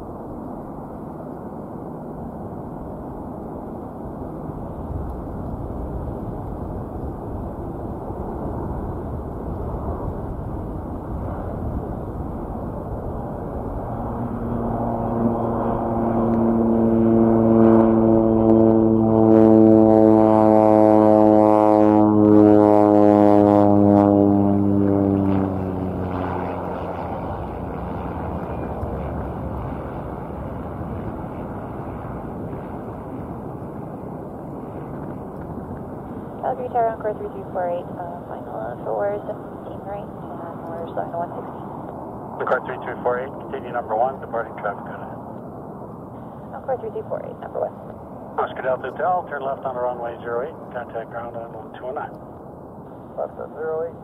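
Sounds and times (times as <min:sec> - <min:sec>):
propeller plane engine drone: 0:00.0 - 0:54.0
wind rumble on microphone: 0:00.0 - 0:54.0.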